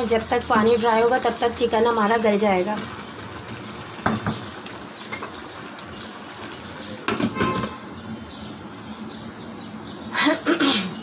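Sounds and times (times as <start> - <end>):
curry bubbling: 0.0 - 9.4.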